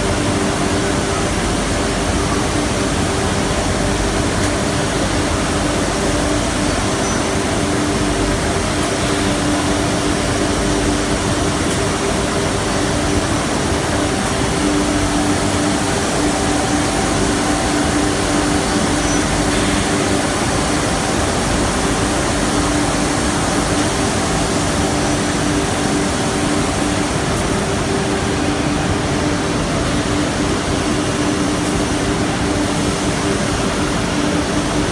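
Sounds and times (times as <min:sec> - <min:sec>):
held hum tones: 0:00.0 - 0:34.9.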